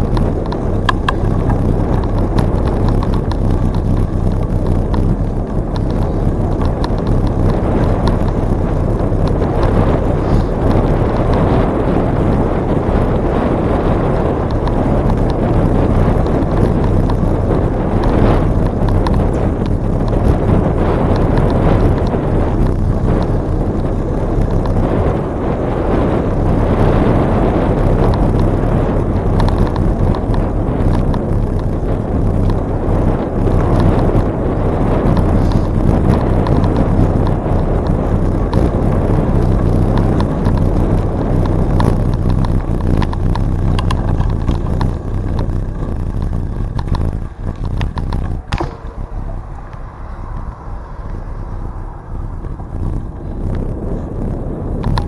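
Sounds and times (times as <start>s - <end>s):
bicycle rattles: 0.0s - 55.0s
bicycle tyre rumble: 0.0s - 55.0s
wind on microphone: 0.0s - 55.0s.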